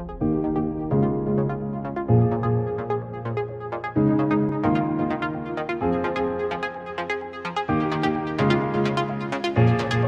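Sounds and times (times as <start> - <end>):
electronic music with synth chords: 0.0 - 10.0.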